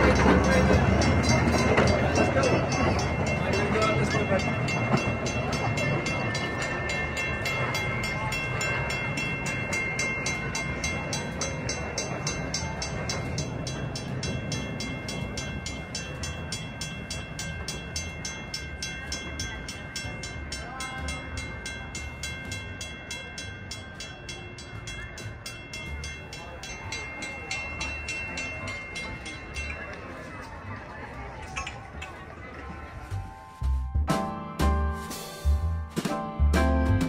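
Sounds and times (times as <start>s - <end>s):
bell ringing rapidly: 0.0s - 30.5s
small train rumbling: 0.0s - 37.0s.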